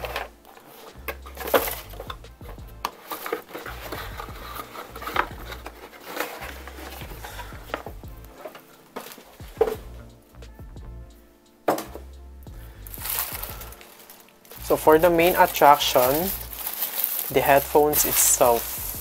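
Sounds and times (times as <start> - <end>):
background music with bass: 0.0 - 3.0, 3.6 - 19.0
cardboard packaging rustling: 0.0 - 10.1, 12.8 - 19.0.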